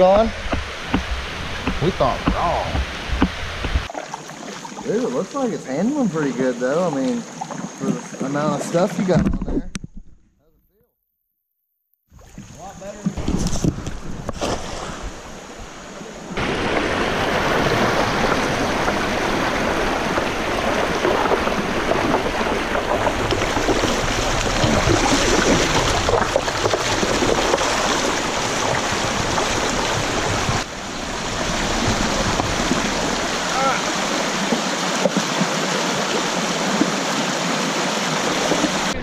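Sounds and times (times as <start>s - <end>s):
creek water rushing: 0.0s - 9.1s, 12.2s - 39.0s.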